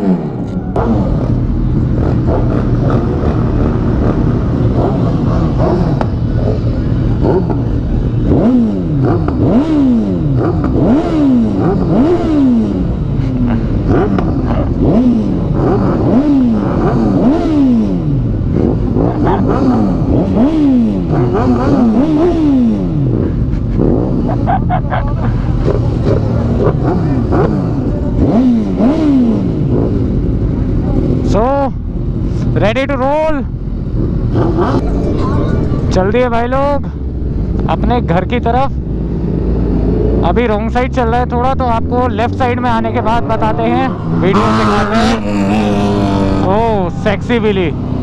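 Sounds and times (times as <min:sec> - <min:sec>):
motorcycle engines revving: 0:00.0 - 0:48.0.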